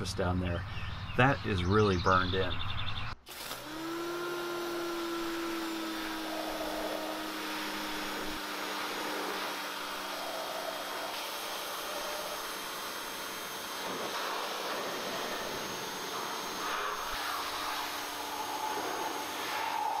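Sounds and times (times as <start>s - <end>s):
pressure washer motor whine: 3.3s - 20.0s.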